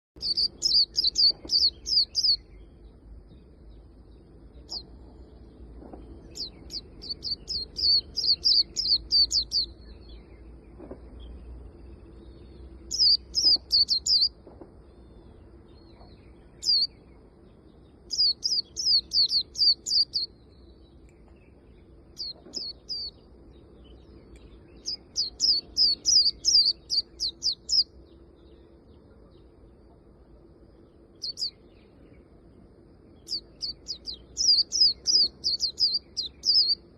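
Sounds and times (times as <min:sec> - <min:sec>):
bird twittering song: 0:00.2 - 0:36.9
faint steady hum: 0:00.2 - 0:36.9.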